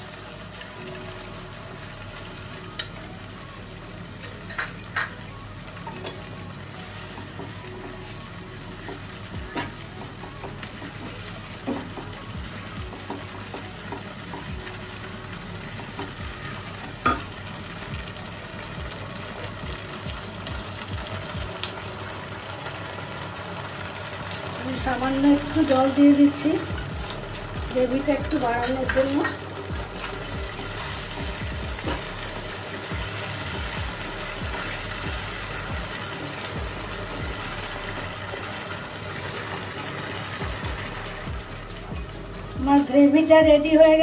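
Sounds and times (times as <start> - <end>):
gravy sizzling in a wok: 0.0 - 44.0.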